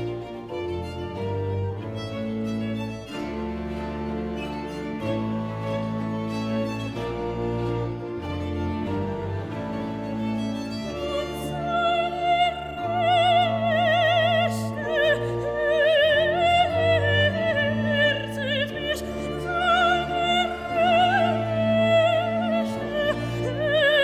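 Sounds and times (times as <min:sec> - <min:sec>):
strings and bass line: 0:00.0 - 0:24.0.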